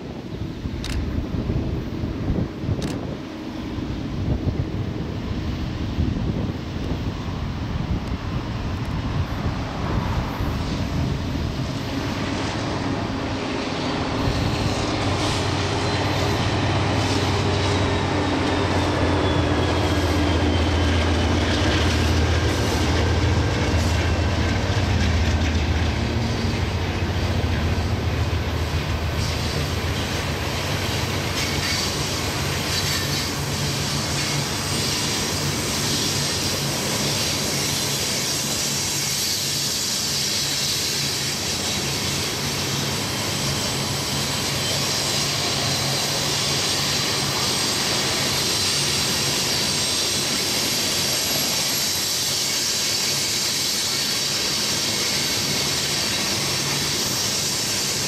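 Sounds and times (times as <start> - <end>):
train wheels rumbling on rail: 0.0 - 58.0
wheels hissing and squealing: 8.2 - 58.0.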